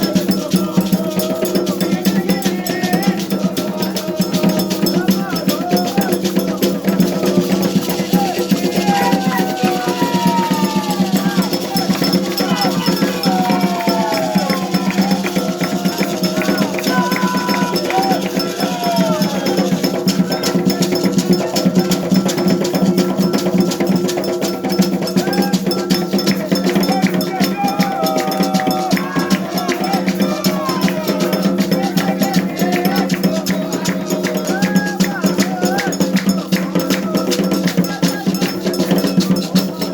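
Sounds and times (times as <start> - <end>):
clanking metal bell: 0.0 - 39.9
drums beating: 0.0 - 39.9
voices singing: 0.0 - 39.9.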